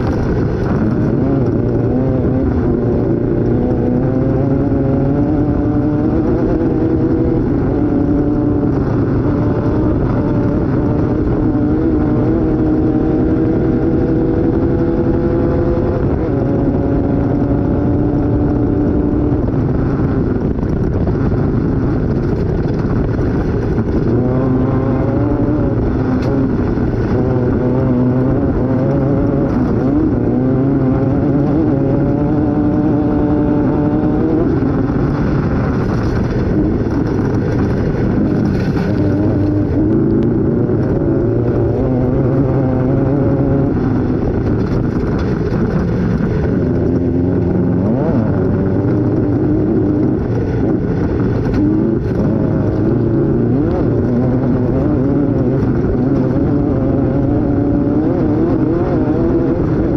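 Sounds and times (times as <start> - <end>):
noisy rumble: 0.0 - 59.9
off-road vehicle engine at speed: 0.0 - 59.9.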